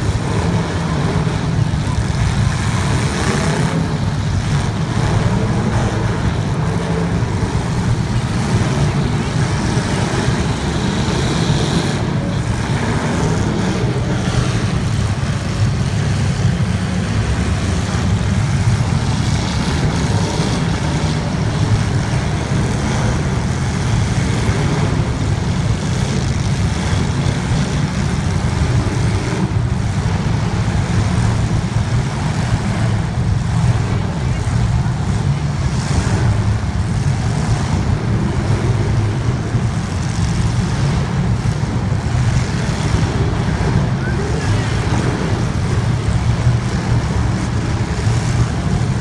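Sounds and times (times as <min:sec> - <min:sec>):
racing car engines running: 0:00.0 - 0:49.0.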